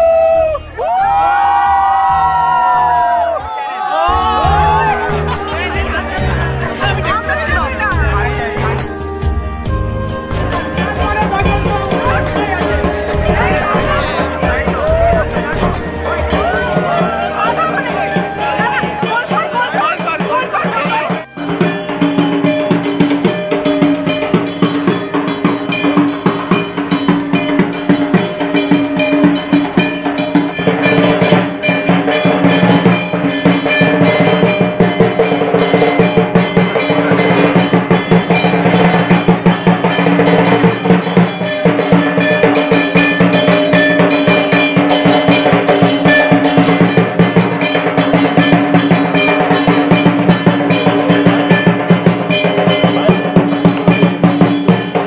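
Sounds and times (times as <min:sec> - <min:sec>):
fast continuous drumming: 0:00.0 - 0:55.0
metallic percussion: 0:00.0 - 0:55.0.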